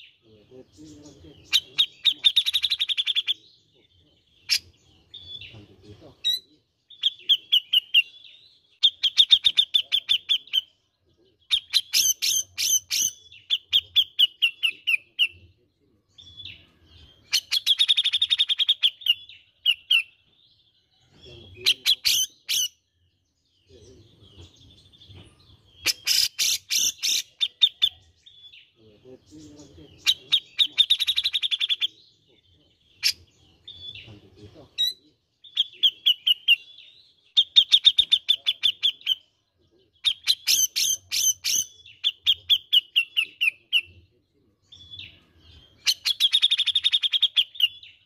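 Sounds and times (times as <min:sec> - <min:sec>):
bird chattering song: 0:00.0 - 0:48.0.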